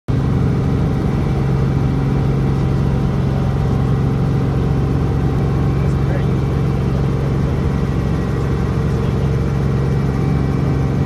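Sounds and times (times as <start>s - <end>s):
helicopter engine and rotor: 0.1s - 11.0s.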